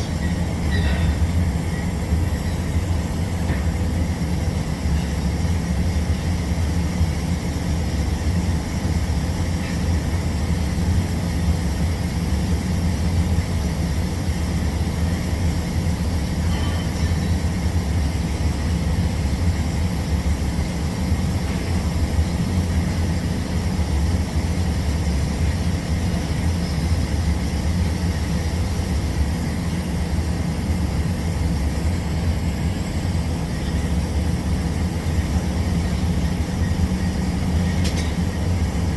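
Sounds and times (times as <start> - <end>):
machinery drone: 0.0 - 38.9.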